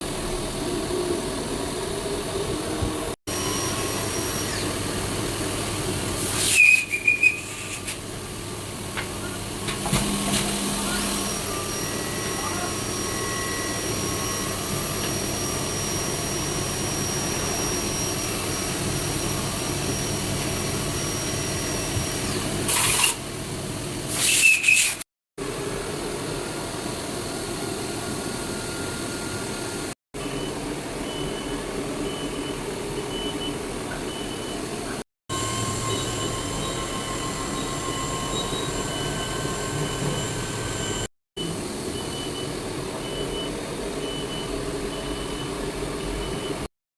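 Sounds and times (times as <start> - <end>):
milling machine hum and whine: 0.0 - 24.0, 25.4 - 46.7.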